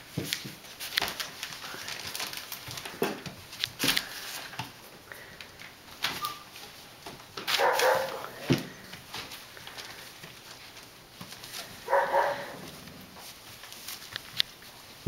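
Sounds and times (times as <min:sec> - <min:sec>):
paper rustling: 0:00.0 - 0:15.0
scuffling on paper: 0:00.0 - 0:15.0.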